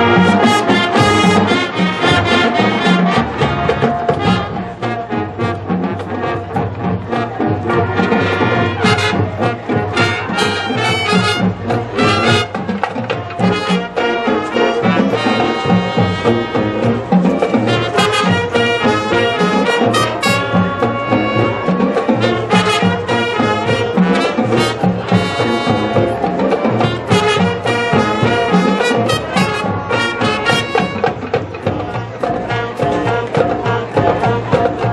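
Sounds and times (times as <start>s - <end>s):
brass band playing funk: 0.0s - 34.9s.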